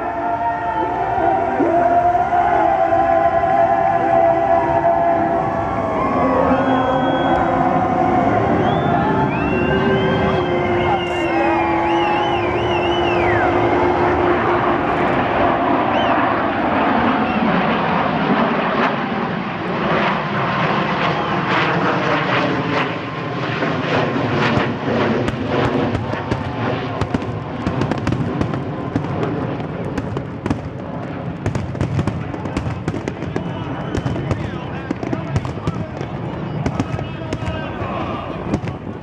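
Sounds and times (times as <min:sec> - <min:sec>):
jet bomber passing overhead: 0:00.0 - 0:39.0.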